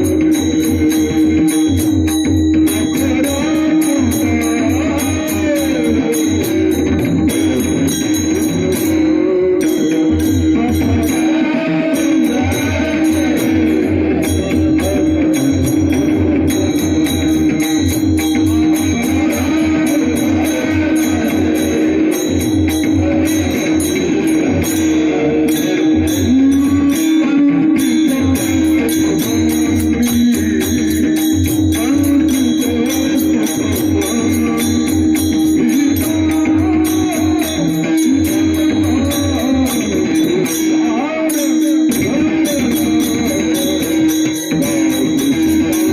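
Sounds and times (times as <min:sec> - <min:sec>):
drum strokes: 0:00.0 - 0:45.9
small hand cymbals: 0:00.0 - 0:45.9.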